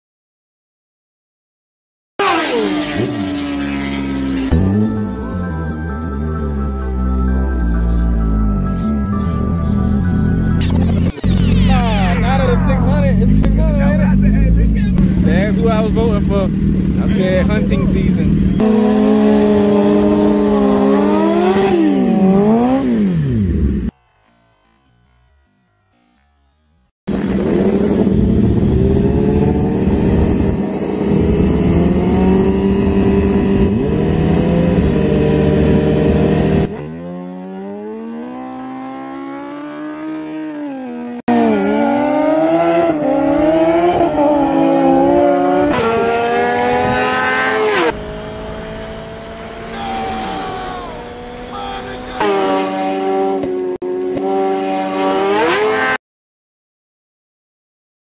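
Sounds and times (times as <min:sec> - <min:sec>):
motorcycle engines revving: 0:02.2 - 0:09.0, 0:10.3 - 0:56.0.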